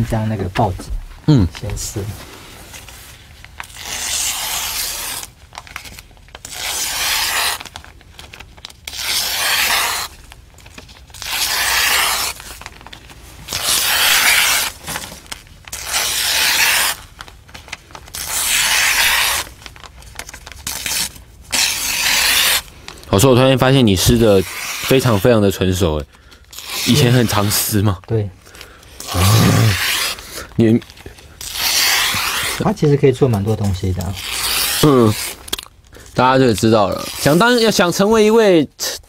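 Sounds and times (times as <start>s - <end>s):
newspaper being torn: 2.8s - 38.3s.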